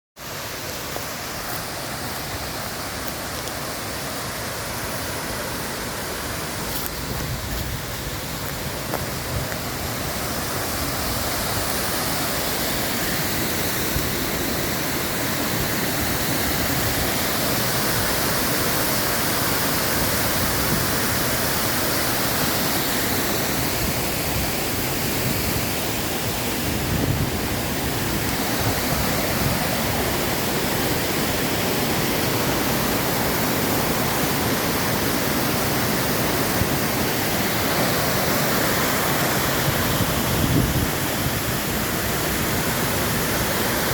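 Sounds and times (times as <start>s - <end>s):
waterfall roaring: 0.2s - 43.9s.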